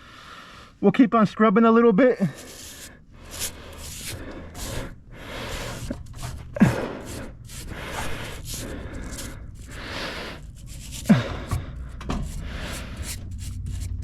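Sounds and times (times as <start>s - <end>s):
brush scrubbing metal fins: 2.2s - 14.0s.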